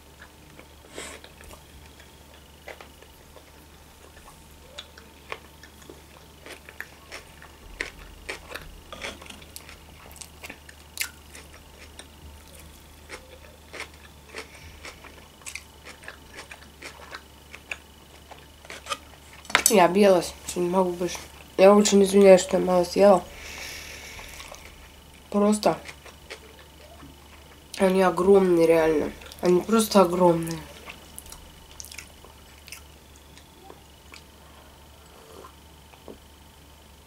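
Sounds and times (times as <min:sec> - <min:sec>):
person chewing: 0:00.0 - 0:19.6, 0:23.4 - 0:27.9, 0:30.4 - 0:36.2.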